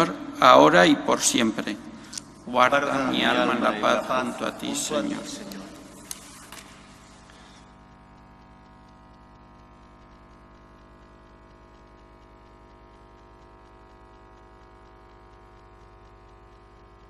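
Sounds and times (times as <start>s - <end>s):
faint electrical hum: 0.0s - 17.0s
faint regular ticking: 0.0s - 17.0s.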